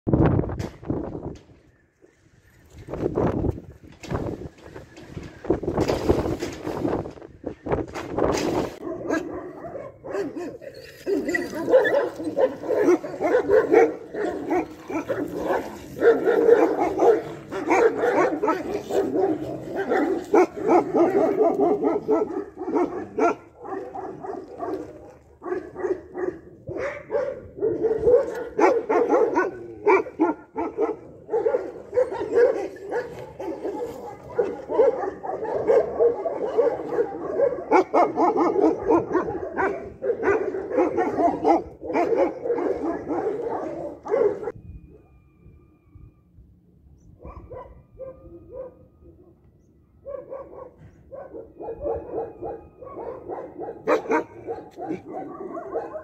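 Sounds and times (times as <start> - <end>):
dogs barking and yelping: 8.5 - 46.1, 47.0 - 56.0.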